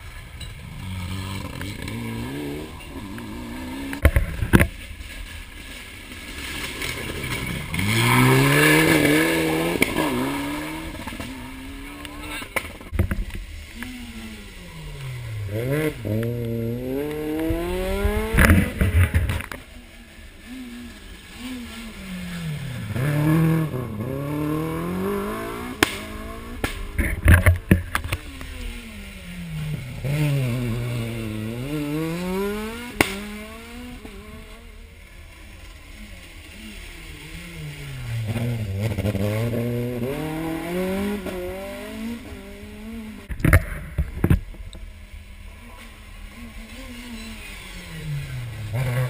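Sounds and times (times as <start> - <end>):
rally car engine: 0.0 - 49.0.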